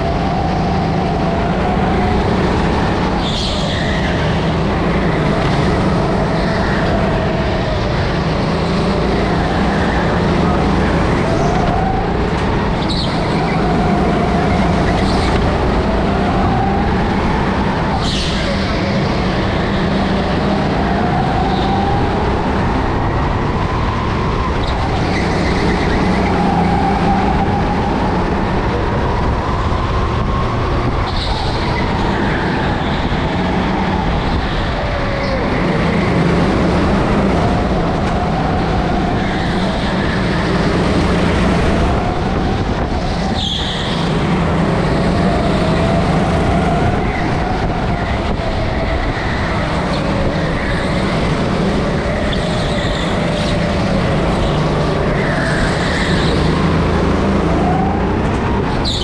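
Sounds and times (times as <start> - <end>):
go-kart motor droning: 0.0 - 59.0.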